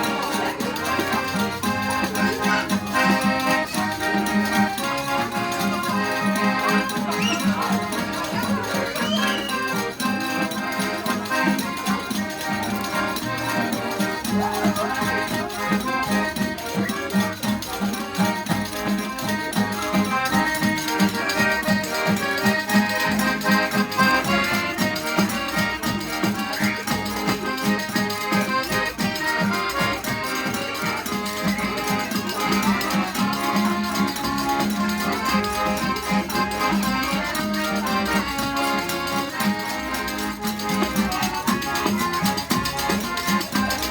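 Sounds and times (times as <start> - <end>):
accordion playing dance music: 0.0 - 43.9.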